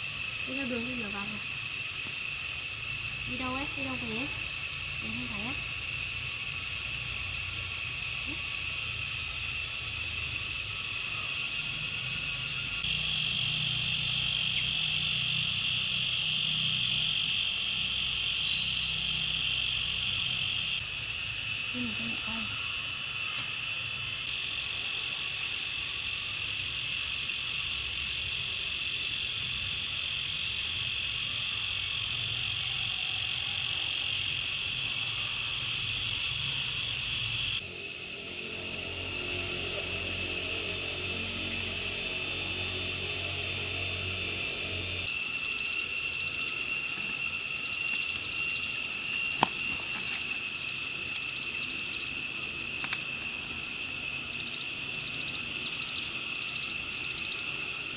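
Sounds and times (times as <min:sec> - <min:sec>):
insect chorus buzzing: 0:00.0 - 0:57.9.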